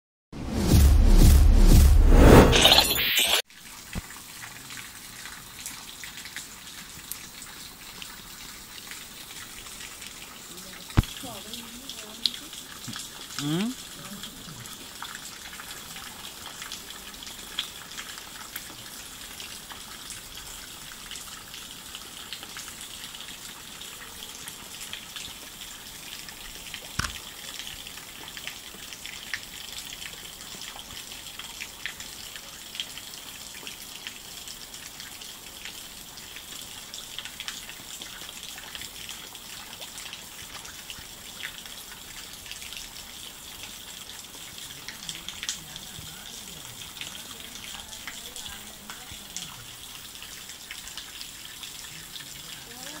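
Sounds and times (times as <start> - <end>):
running water: 2.6 - 53.0
water drips: 3.5 - 53.0.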